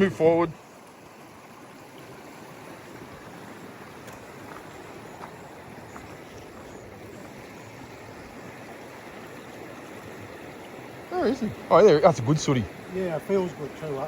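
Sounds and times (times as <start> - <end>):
stream water over rocks: 0.0 - 14.0.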